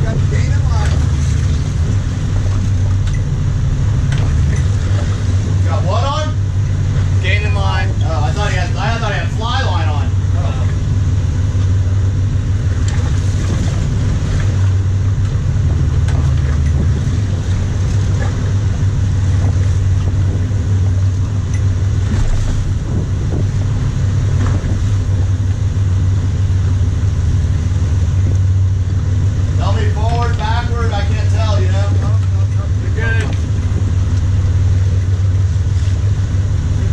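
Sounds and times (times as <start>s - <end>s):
boat engines droning: 0.0s - 36.9s
water washing: 0.0s - 36.9s
wind: 0.0s - 36.9s.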